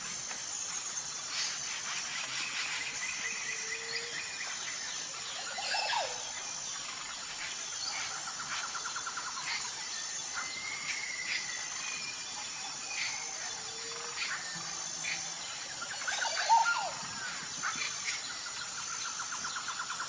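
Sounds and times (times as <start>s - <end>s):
insects chirring: 0.0s - 20.0s
bird chirps and trills: 0.6s - 20.0s.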